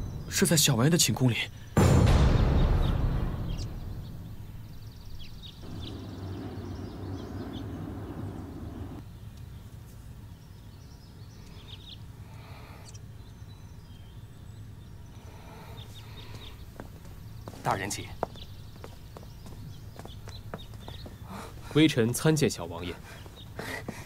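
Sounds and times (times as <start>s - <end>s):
steady low hum: 0.0s - 21.8s
small birds chirping: 0.0s - 24.0s.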